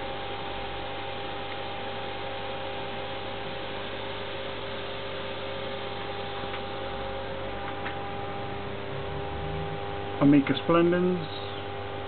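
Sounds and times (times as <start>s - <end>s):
electrical hum with held tones: 0.0s - 12.0s.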